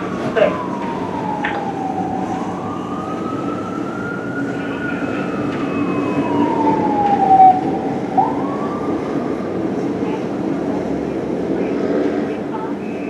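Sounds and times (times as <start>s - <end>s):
fire engine siren wailing: 0.0s - 11.9s
traffic rumble: 0.0s - 13.0s.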